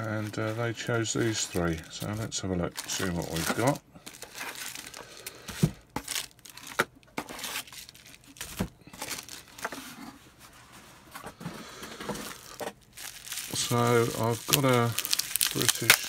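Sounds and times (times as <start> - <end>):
plastic bags crinkling: 0.0 - 10.0, 11.6 - 16.0.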